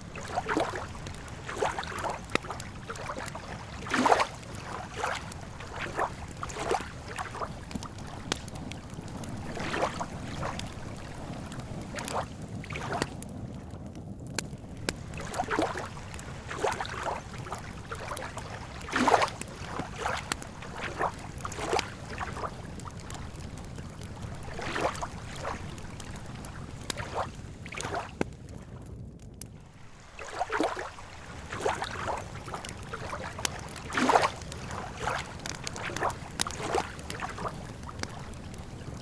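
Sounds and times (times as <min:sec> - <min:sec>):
lake waves lapping: 0:00.0 - 0:13.2, 0:14.7 - 0:28.6, 0:29.6 - 0:39.0
campfire crackling: 0:00.0 - 0:39.0.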